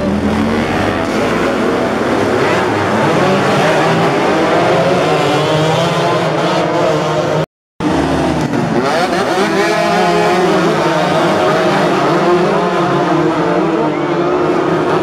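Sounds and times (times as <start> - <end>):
racing motorcycles revving: 0.0 - 15.0.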